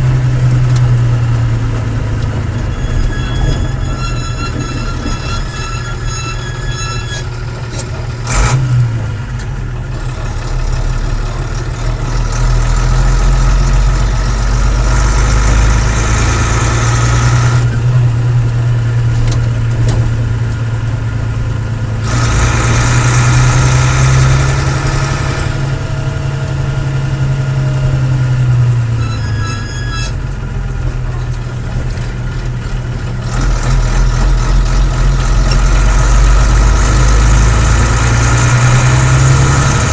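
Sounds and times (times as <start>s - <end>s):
diesel lorry engine revving: 0.0s - 39.9s.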